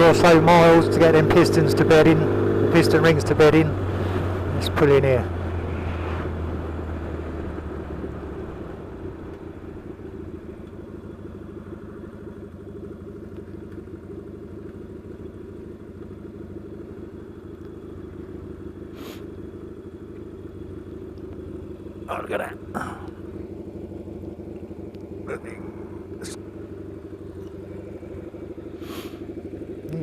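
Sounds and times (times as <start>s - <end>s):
motorcycle engine slowing and idling: 0.0s - 30.0s.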